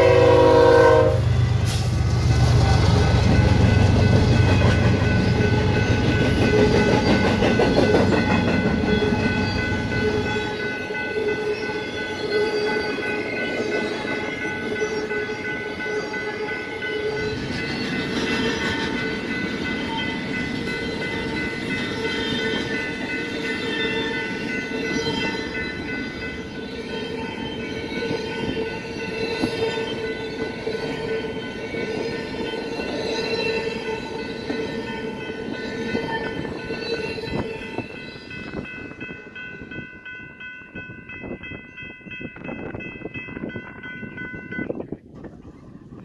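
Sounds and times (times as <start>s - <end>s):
train cars clattering: 0.0s - 40.4s
crossing signal bell ringing: 3.1s - 45.0s.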